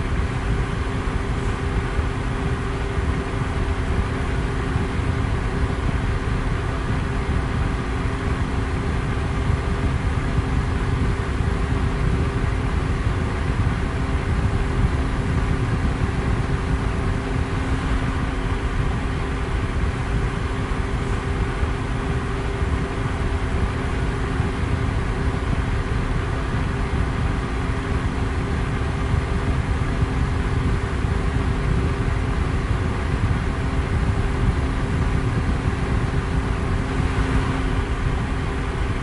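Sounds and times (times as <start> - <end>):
electric fan rushing air: 0.0 - 39.0
faint hum: 0.0 - 39.0.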